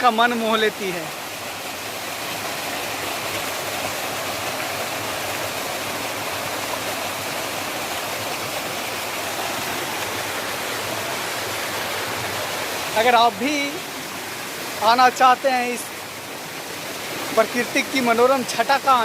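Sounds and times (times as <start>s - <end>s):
waterfall splashing: 0.0s - 19.0s.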